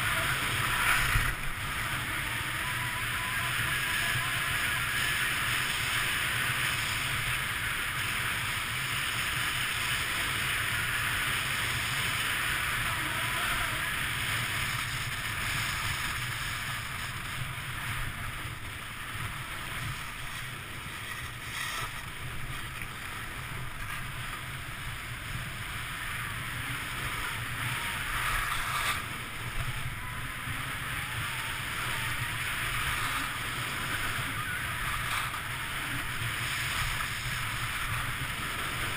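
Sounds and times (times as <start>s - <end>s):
skis carving over packed snow: 0.0s - 38.9s
wind rushing over microphone: 0.0s - 38.9s.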